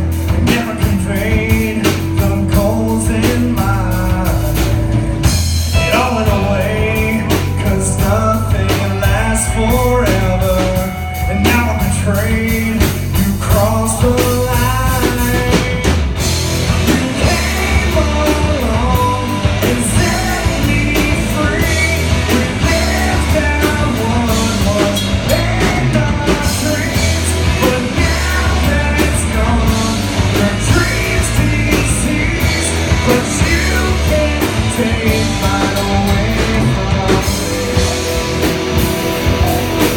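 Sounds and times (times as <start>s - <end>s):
rock band playing live: 0.0s - 39.9s
person singing: 0.3s - 39.9s.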